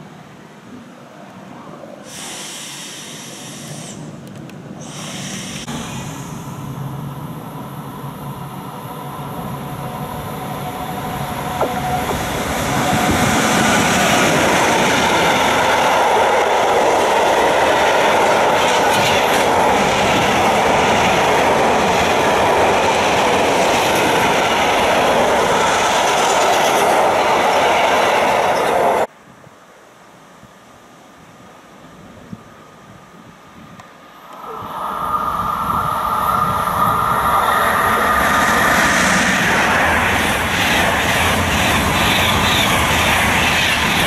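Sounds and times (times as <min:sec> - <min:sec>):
freight train wheels rolling: 0:03.3 - 0:29.1, 0:34.2 - 0:44.0.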